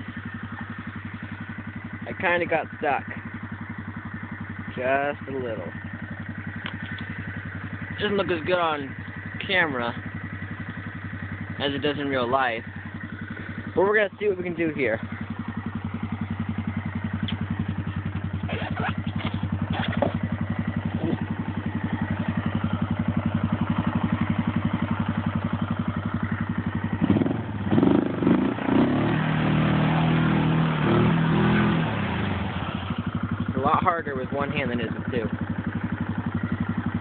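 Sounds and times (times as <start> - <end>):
atv engine idling and revving: 0.0 - 37.0.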